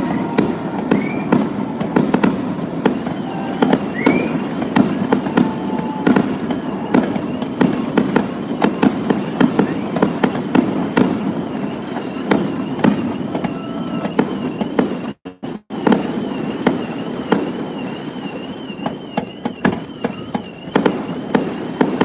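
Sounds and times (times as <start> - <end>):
fireworks bangs: 0.0 - 22.0
rumble and crackle of fireworks: 0.0 - 22.0.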